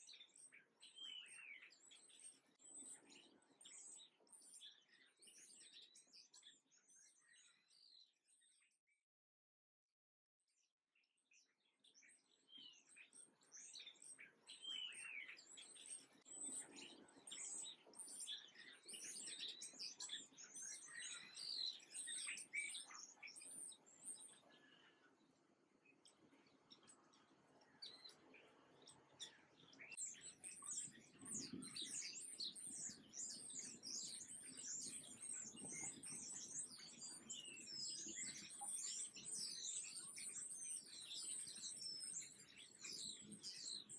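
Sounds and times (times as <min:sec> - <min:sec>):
songbirds chirping and twittering: 0:00.0 - 0:09.0, 0:10.4 - 0:43.9.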